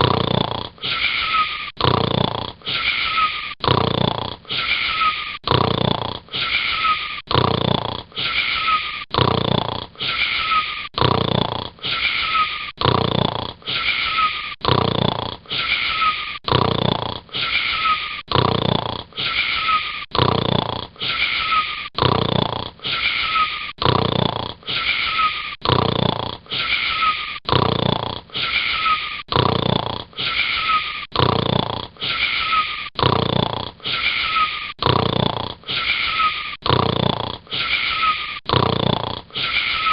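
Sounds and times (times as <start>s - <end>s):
wheezy snoring: 0.0s - 39.9s.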